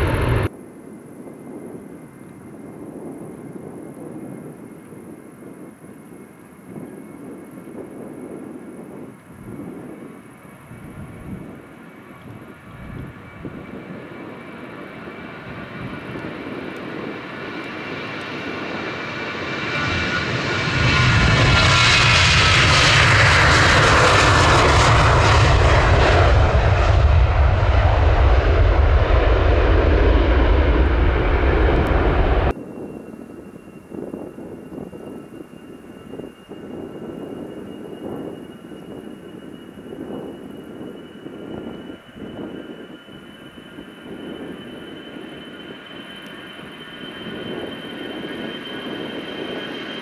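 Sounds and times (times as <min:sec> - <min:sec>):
steady high whine: 0:00.0 - 0:02.6, 0:03.2 - 0:50.0
jet airliner taking off: 0:00.0 - 0:50.0.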